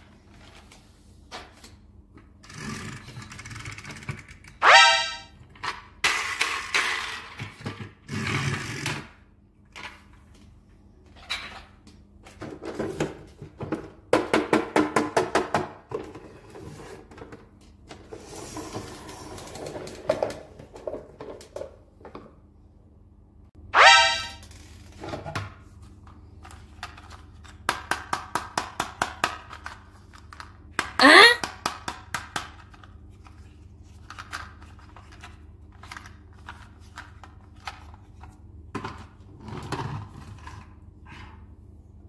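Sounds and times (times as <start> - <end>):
plastic toys knocking and scraping: 0.3 - 4.6, 5.5 - 10.2, 11.1 - 22.3, 26.4 - 41.4.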